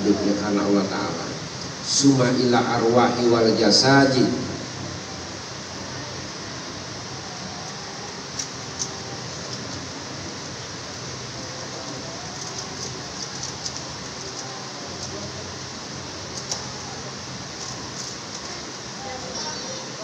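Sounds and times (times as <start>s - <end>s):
murmur of congregation speaking: 0.0s - 20.0s
room noise hiss: 0.0s - 20.0s.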